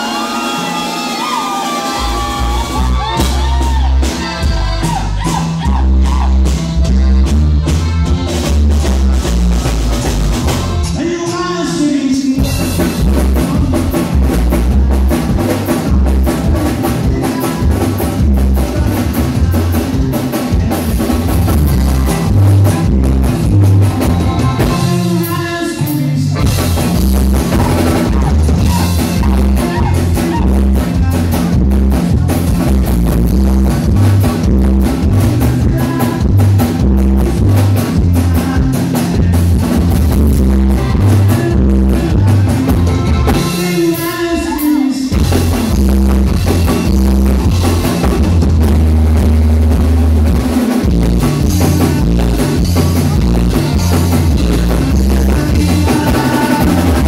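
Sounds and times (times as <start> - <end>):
button accordion: 0.0 - 11.8, 12.5 - 57.0
bajo sexto guitar: 0.0 - 57.0
drum kit: 0.0 - 57.0
electric bass: 0.0 - 57.0.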